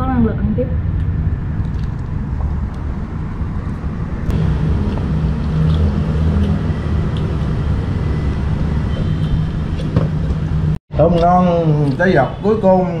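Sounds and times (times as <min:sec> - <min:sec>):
wavering hum: 0:00.0 - 0:10.8
low rumbling background noise: 0:00.0 - 0:13.0.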